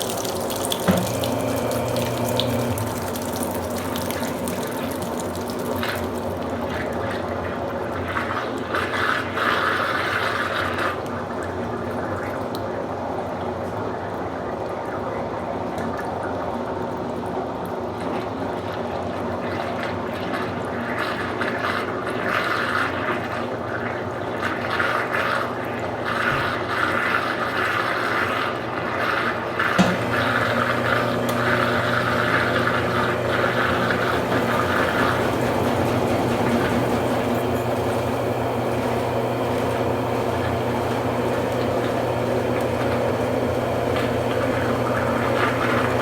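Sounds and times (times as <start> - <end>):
water pouring into washing machine: 0.0 - 46.0.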